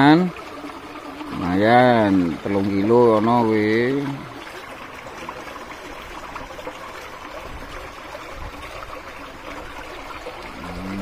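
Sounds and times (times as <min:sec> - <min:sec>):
water trickling into pond: 0:00.0 - 0:11.0.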